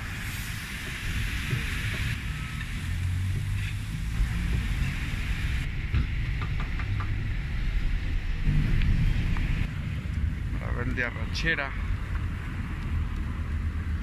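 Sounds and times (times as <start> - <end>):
street noise rumble: 0.0 - 14.0.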